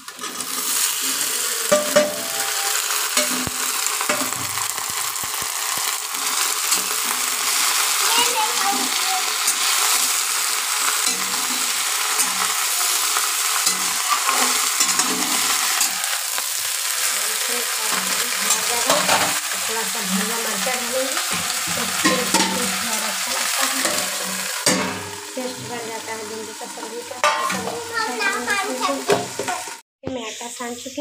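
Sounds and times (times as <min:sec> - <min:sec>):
metal spatula scraping pan: 0:00.0 - 0:29.8
okra sizzling in hot oil: 0:00.0 - 0:31.0.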